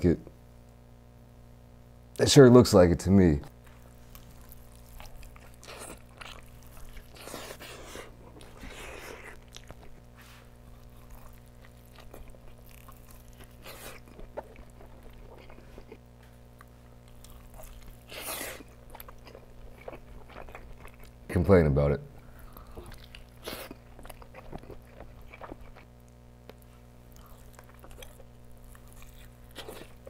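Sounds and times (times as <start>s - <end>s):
low electrical hum: 0.0s - 30.0s
person chewing a burger: 3.5s - 21.3s, 22.2s - 30.0s.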